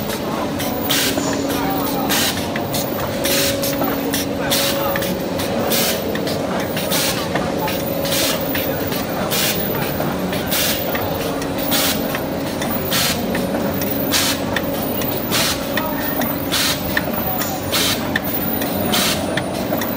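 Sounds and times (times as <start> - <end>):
mechanical hum: 0.0 - 19.9.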